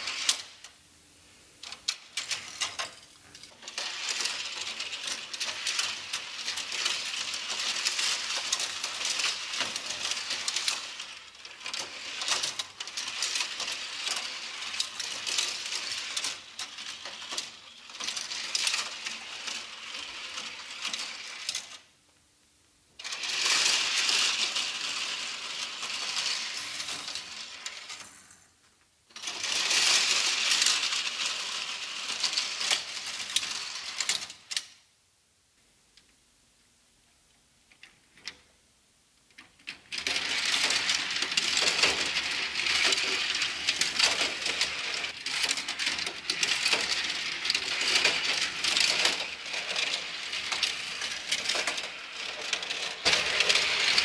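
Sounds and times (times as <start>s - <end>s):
toy cars rattling down plastic track: 0.0s - 0.8s, 1.6s - 21.9s, 23.0s - 34.8s, 39.3s - 54.0s.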